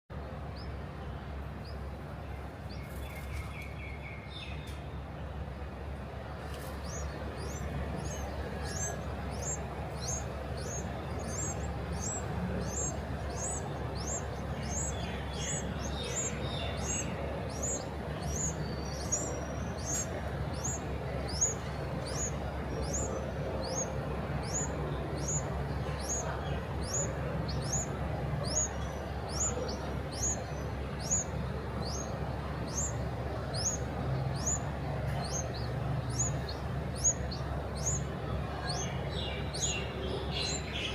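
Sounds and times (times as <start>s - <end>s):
low background hum: 0.1s - 40.9s
small bird chirping: 6.4s - 40.9s.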